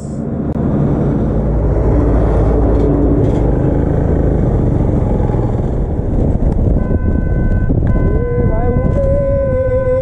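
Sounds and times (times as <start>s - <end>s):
road noise: 0.0s - 10.0s
wind noise: 0.0s - 10.0s.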